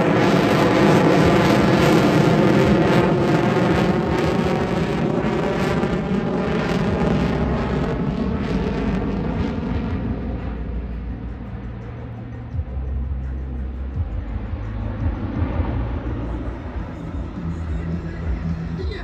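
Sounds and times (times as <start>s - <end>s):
jet engines at high power: 0.0s - 19.0s.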